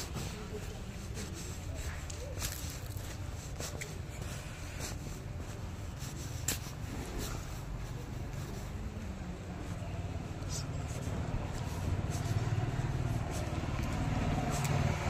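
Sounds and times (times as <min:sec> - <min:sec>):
footsteps on brick paving: 0:00.0 - 0:15.0.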